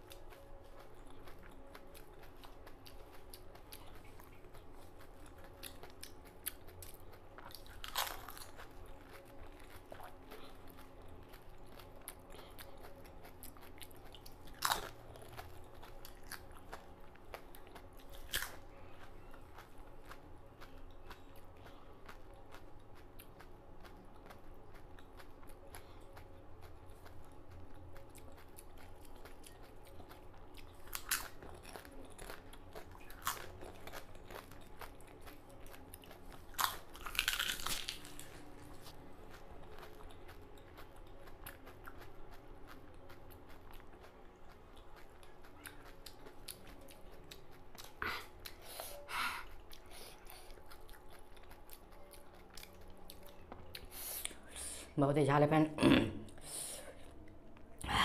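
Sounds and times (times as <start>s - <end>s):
crunchy chewing: 0.0s - 54.4s.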